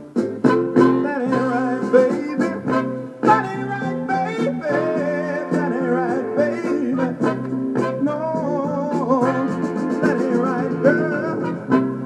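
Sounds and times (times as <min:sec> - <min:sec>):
soul record playing: 0:00.0 - 0:12.0.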